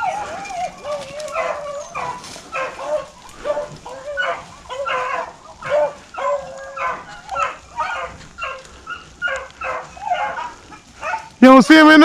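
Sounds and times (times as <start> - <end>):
dogs barking and baying: 0.0 - 12.0.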